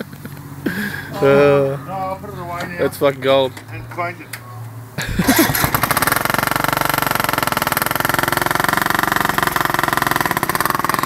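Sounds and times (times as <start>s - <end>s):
lawn mower engine running: 0.0s - 4.1s, 4.7s - 11.0s.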